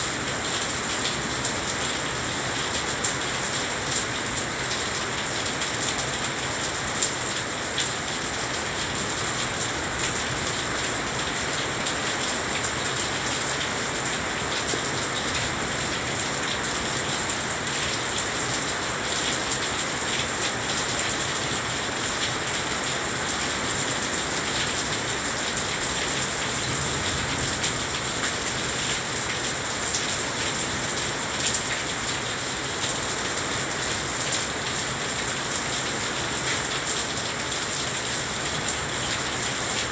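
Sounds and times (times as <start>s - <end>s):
heavy rain on glass railing: 0.0s - 39.9s.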